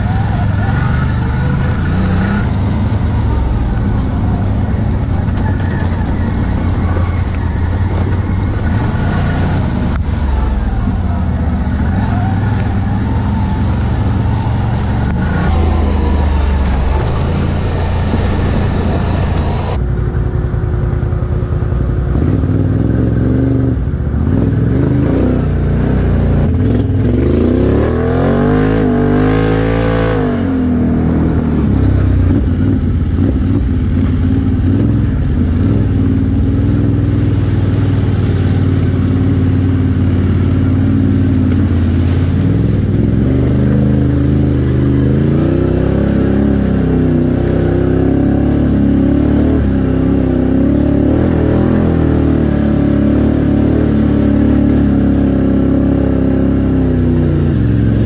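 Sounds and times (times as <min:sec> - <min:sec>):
atv engine running and revving: 0:00.0 - 0:58.0.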